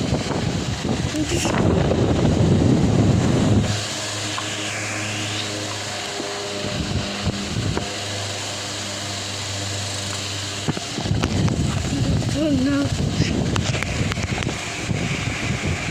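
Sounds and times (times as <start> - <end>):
fan motor hum: 0.0 - 15.9
rush of air from fan: 0.0 - 15.9.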